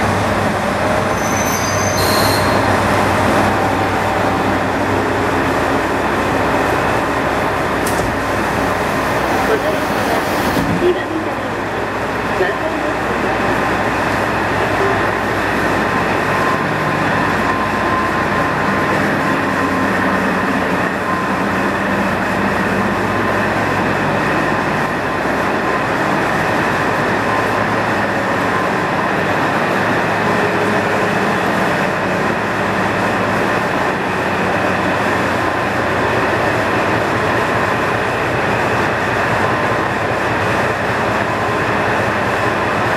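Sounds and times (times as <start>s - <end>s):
diesel railcar engine idling: 0.0s - 42.9s.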